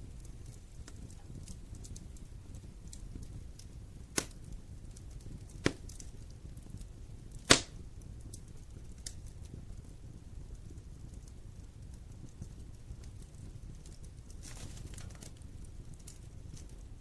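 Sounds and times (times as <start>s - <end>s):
burning logs popping: 0.0s - 17.0s
fire crackling: 0.0s - 17.0s
low fire rumble: 0.0s - 17.0s.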